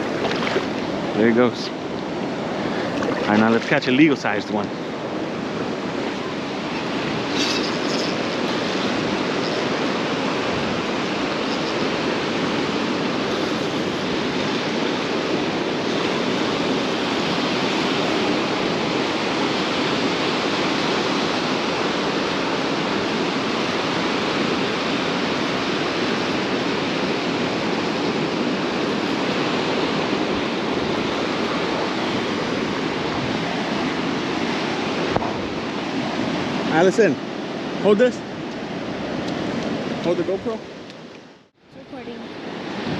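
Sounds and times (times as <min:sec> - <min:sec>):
ocean surf on a beach: 0:00.0 - 0:42.9.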